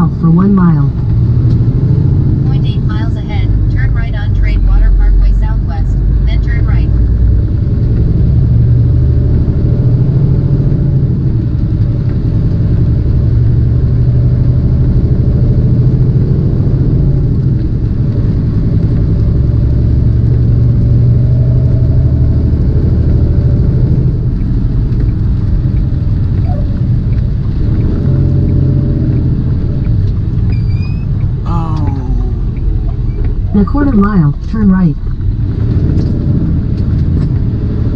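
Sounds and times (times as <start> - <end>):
diesel engine droning: 0.0 - 37.9
road noise: 0.0 - 37.9.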